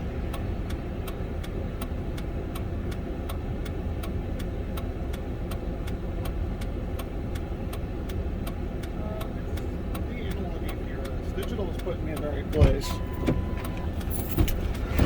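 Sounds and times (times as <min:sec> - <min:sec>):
truck engine and road rumble: 0:00.0 - 0:15.0
even ticking: 0:00.3 - 0:14.3.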